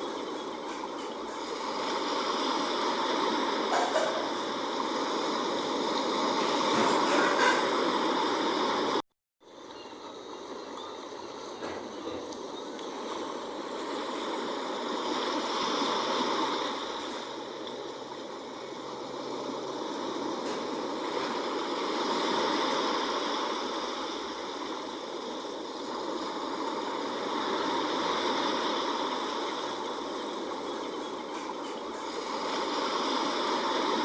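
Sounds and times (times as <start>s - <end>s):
sea waves washing in: 0.0s - 34.0s.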